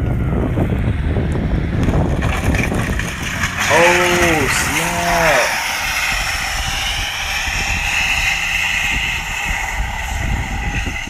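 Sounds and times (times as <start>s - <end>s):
truck engine rumble: 0.0s - 11.0s
metal frame scraping along road: 1.7s - 11.0s.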